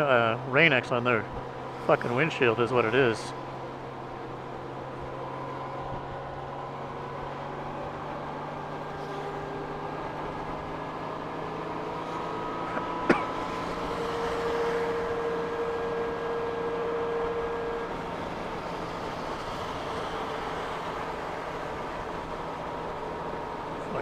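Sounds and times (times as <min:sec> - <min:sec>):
motorcycle engine hum: 0:00.0 - 0:24.0
wind: 0:00.0 - 0:24.0.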